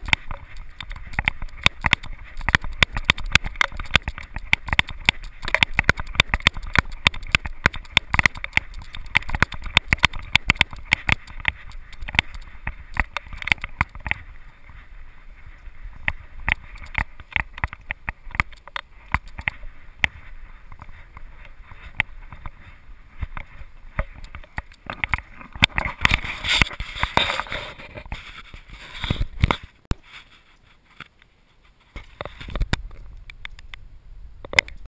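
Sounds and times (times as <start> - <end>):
fur and strap rubbing: 0.0 - 31.0
rustling of hands on camera: 0.0 - 33.8.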